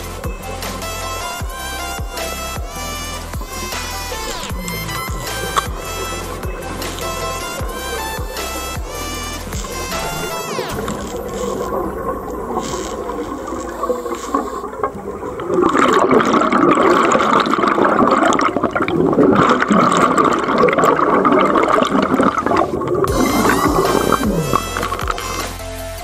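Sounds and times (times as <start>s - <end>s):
underwater air bubbles: 0.0s - 25.6s.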